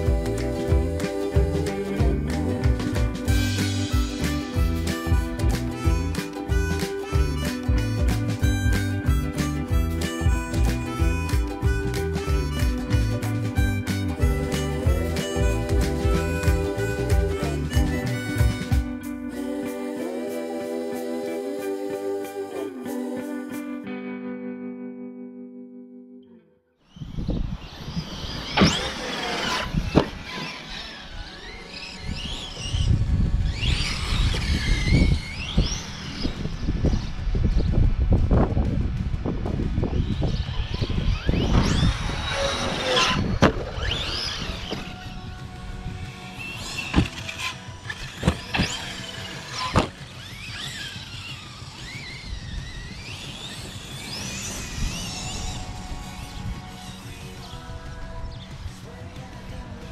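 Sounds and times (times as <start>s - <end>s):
electric motor whining: 0.0s - 20.4s, 26.9s - 58.4s.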